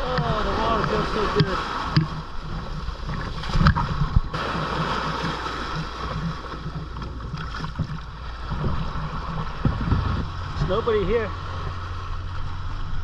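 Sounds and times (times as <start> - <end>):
low rumble: 0.0 - 13.0
water lapping and splashing: 0.0 - 13.0.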